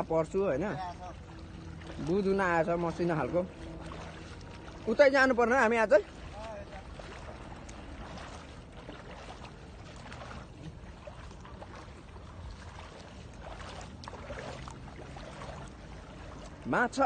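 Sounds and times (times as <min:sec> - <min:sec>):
light splashing: 0:00.0 - 0:17.0
river water trickling: 0:00.0 - 0:17.0.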